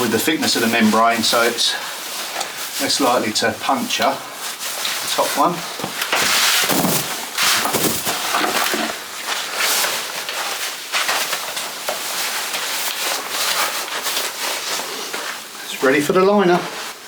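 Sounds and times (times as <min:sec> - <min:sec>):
membrane sheet rustling and scraping: 0:00.0 - 0:17.0.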